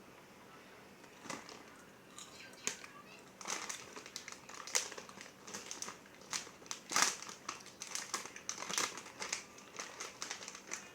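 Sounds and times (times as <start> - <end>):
snack bag crinkling: 1.1 - 10.9.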